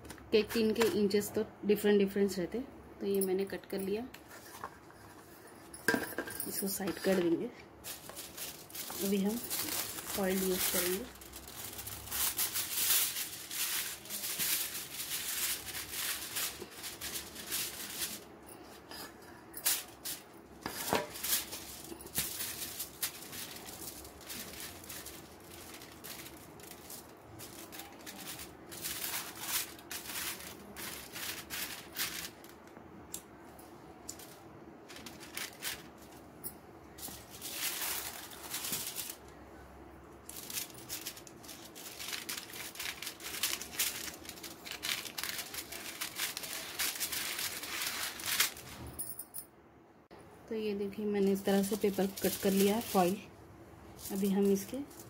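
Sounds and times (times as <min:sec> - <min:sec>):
aluminium foil crinkling: 0:00.1 - 0:01.2, 0:06.4 - 0:33.2, 0:34.0 - 0:36.3, 0:36.9 - 0:39.4, 0:40.2 - 0:48.9, 0:51.2 - 0:53.3, 0:53.9 - 0:55.0.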